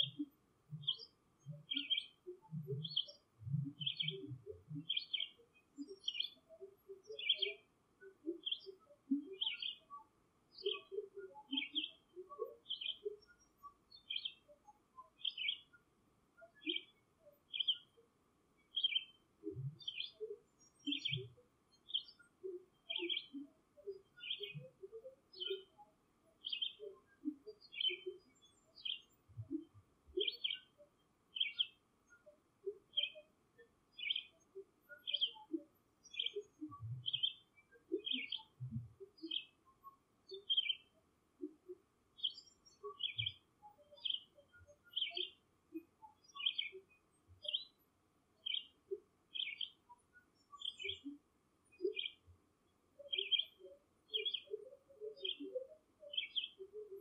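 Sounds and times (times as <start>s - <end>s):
bird chirping: 0.0s - 15.8s, 16.4s - 18.0s, 18.6s - 47.8s, 48.4s - 52.4s, 53.0s - 57.0s.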